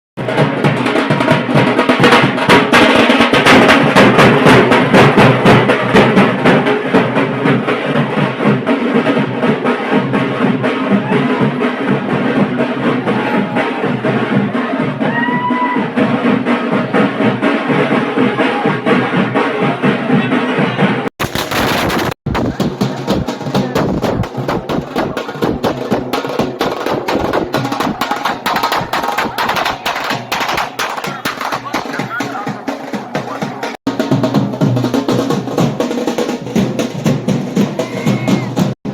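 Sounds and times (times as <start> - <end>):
fast drumming with music: 0.2 - 38.9.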